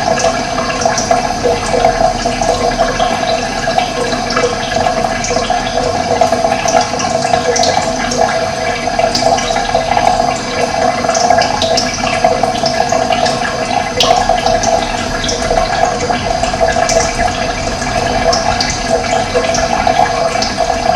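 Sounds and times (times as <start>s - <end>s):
running water flowing: 0.0s - 20.9s.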